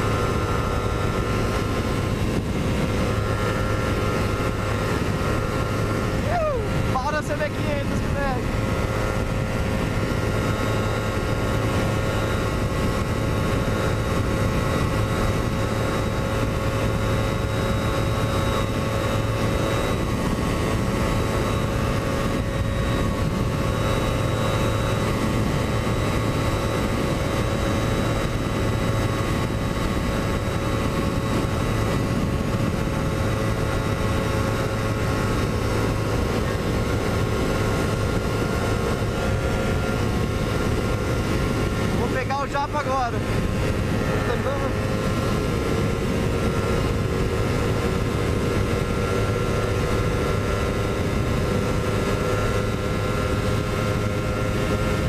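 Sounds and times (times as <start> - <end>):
motorcycle engine at high revs: 0.0 - 55.0
wind rush over microphone: 0.0 - 55.0.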